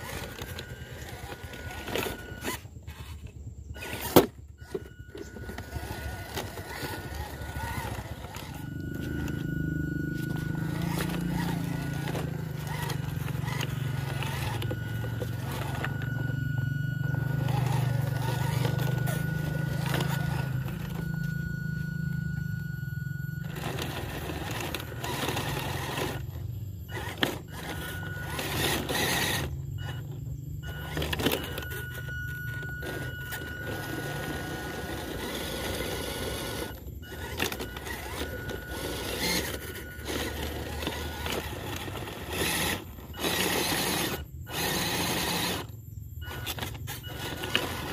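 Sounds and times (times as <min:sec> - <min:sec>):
electric motor humming: 0:00.0 - 0:47.9
thin steady whine: 0:00.0 - 0:47.9.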